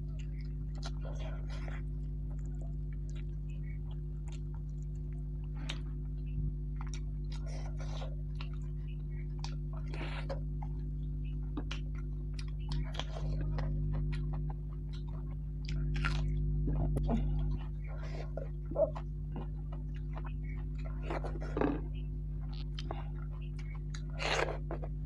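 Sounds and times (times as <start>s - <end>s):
low hum: 0.0s - 25.0s
wet chewing and lip-smacking: 0.0s - 25.0s.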